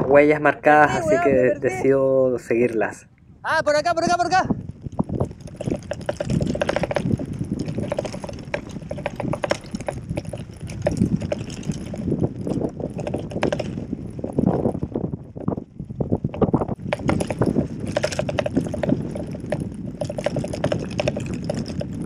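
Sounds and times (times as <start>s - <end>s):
bike tyre noise: 3.5s - 22.0s
bike rattling and knocking: 4.0s - 22.0s.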